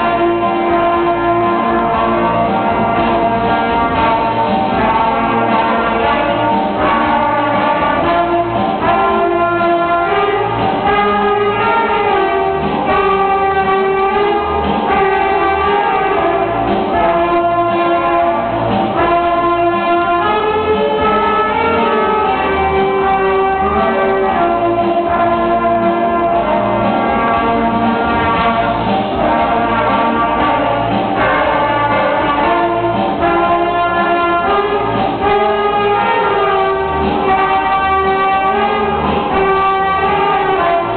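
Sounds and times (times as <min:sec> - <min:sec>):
saxophones and trumpet playing: 0:00.0 - 0:40.9.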